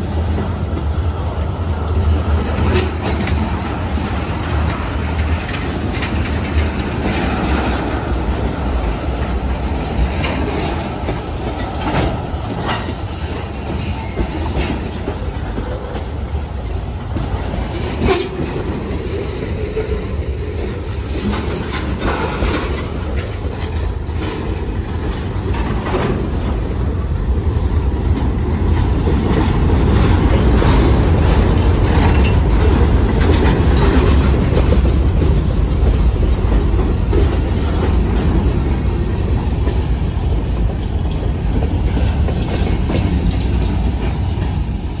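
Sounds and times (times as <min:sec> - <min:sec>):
freight train rumble: 0:00.0 - 0:45.0
train wheels clicking on rail joints: 0:00.0 - 0:45.0.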